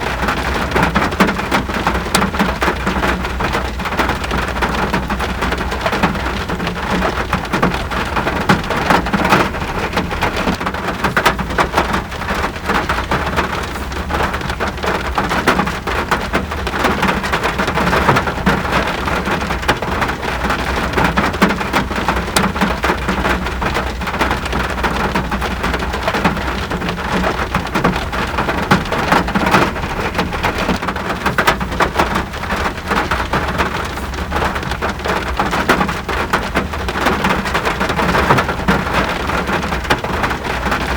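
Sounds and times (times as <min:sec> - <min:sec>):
constant low rumble: 0:00.0 - 0:40.9
steady rain: 0:00.0 - 0:40.9.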